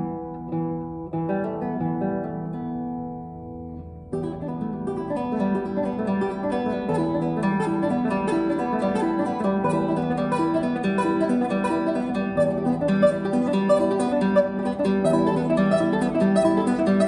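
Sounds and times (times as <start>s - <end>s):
classical guitar fingerpicking: 0.0s - 17.0s.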